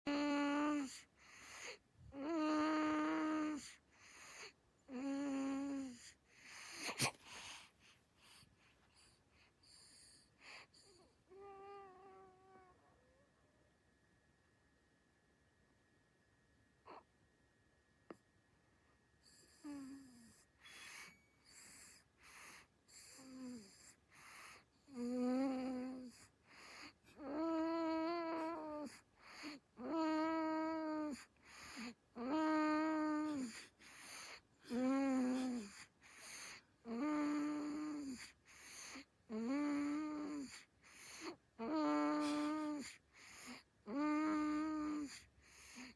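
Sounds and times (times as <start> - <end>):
baby snoring with wheezing whistle: 0.1 - 13.2, 16.8 - 17.1, 19.2 - 45.9.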